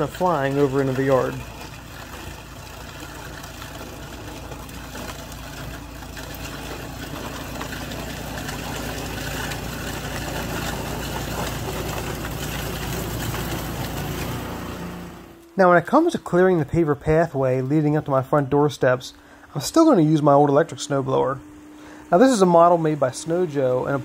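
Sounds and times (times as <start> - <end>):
auger churning snow: 0.0 - 24.0
snowblower engine running: 0.0 - 24.0.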